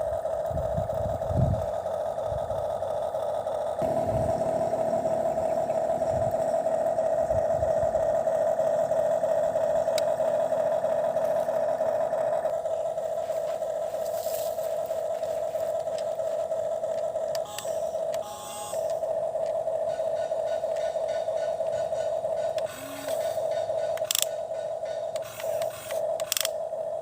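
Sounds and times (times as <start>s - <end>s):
small electric motor whining: 0.0s - 27.0s.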